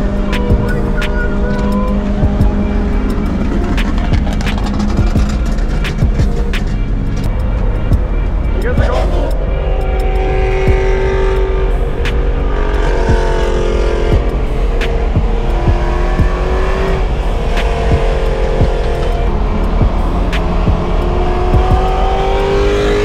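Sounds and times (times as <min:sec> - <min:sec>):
car engine drone: 0:00.0 - 0:23.0
low road rumble: 0:00.0 - 0:23.0.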